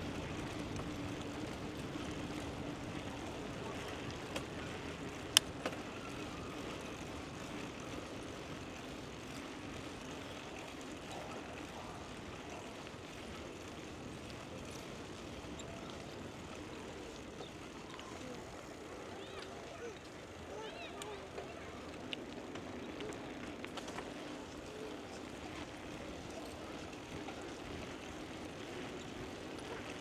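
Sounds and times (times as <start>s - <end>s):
bicycle rolling noise: 0.0s - 30.0s.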